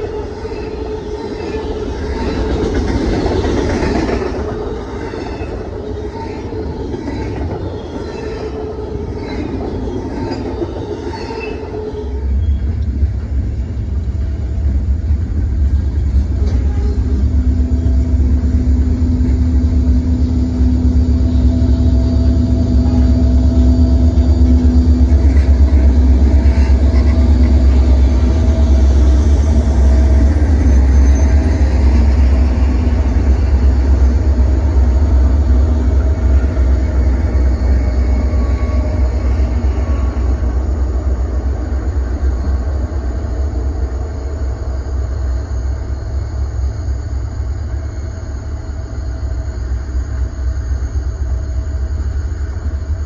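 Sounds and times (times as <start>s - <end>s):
diesel locomotives passing: 0.0s - 53.0s
freight cars rumbling on rails: 0.0s - 53.0s.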